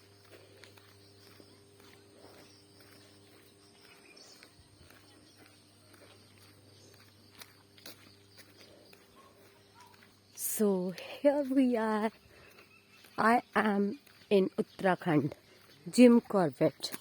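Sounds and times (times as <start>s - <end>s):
low steady hum: 0.0s - 14.4s.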